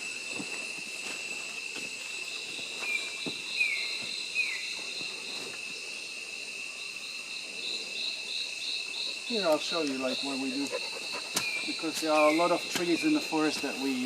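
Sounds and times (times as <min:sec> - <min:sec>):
insects calling in chorus: 0:00.0 - 0:14.0.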